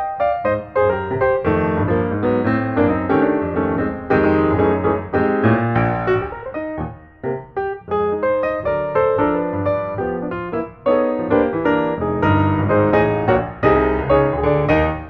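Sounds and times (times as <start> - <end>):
lively piano music: 0.0 - 15.0.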